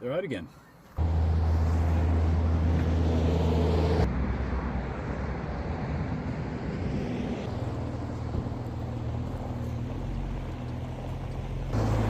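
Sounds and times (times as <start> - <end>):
vehicle engine humming: 0.7 - 12.0
vehicle driving rumble: 0.9 - 12.0.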